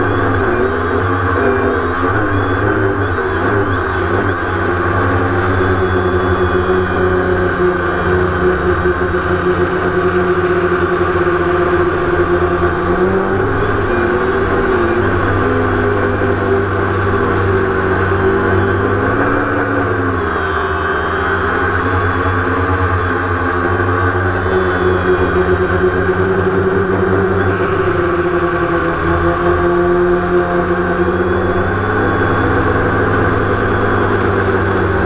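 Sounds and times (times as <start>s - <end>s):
drone propellers buzzing: 0.0s - 35.0s.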